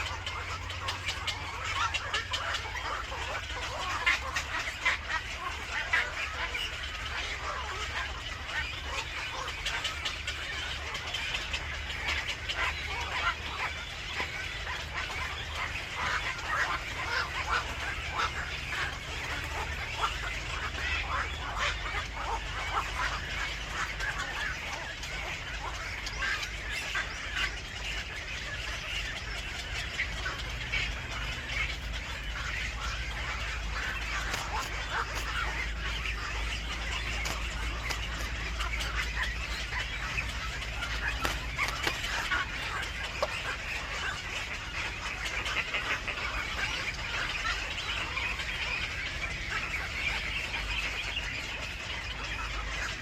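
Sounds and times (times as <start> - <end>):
birds chirping: 0.0 - 53.0
steady low rumble: 0.0 - 53.0.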